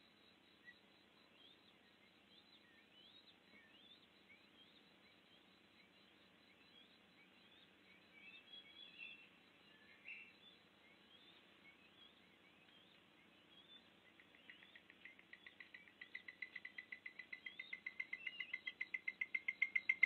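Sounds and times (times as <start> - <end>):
bird chirps: 0.6 - 20.0.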